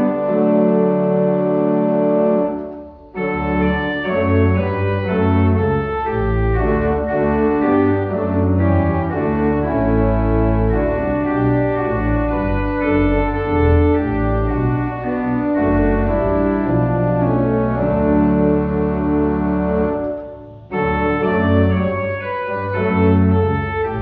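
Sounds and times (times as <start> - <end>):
organ playing a hymn: 0.0 - 24.0.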